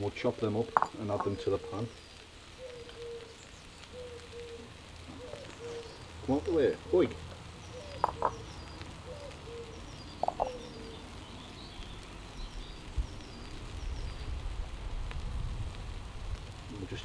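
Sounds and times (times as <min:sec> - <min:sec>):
birds chirping: 0:00.0 - 0:14.8.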